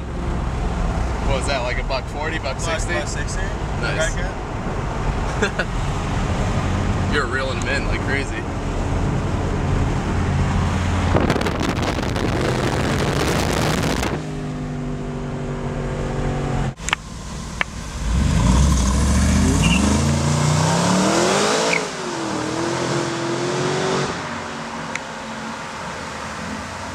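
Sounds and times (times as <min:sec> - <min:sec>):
car revving and accelerating away: 0:00.0 - 0:16.8, 0:17.9 - 0:26.9
car engine pulling hard: 0:00.0 - 0:26.9.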